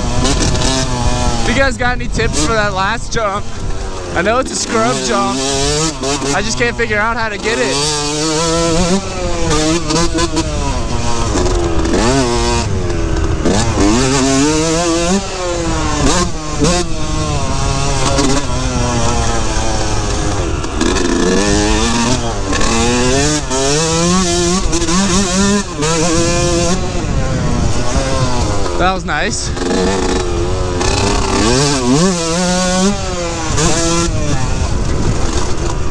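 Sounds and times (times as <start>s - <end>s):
two-stroke motorcycle engine revving: 0.0s - 35.9s.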